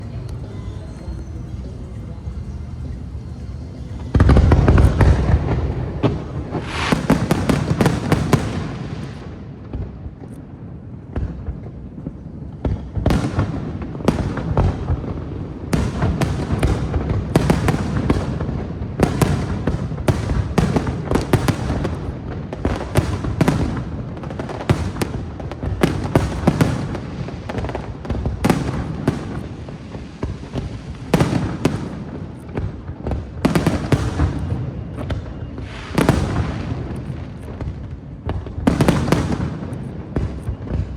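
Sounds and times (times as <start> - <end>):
fireworks banging: 0.0 - 10.2, 12.6 - 40.9.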